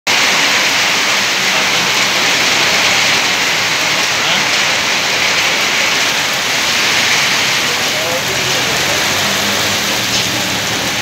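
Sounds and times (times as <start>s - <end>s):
heavy rain on wet street: 0.0s - 11.0s.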